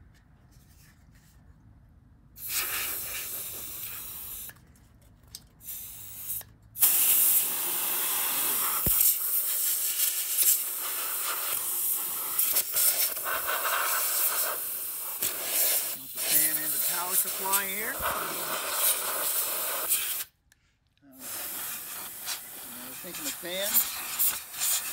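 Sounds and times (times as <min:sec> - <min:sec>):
compressed air spraying: 0:02.4 - 0:04.5, 0:05.6 - 0:20.4, 0:21.2 - 0:24.9.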